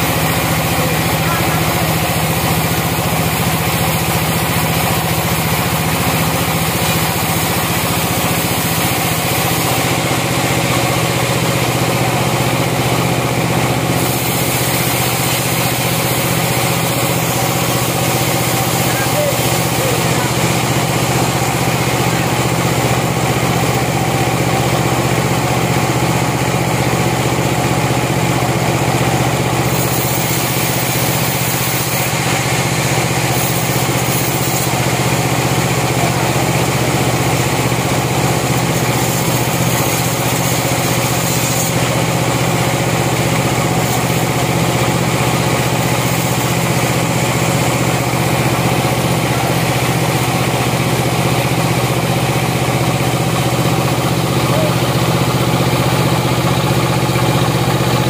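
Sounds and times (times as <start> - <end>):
band saw cutting log: 0.0 - 58.0
constant machine drone: 0.0 - 58.0.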